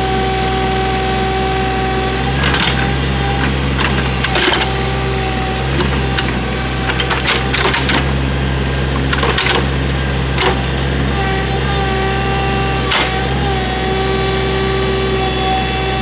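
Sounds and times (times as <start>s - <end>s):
excavator engine running: 0.0s - 15.9s.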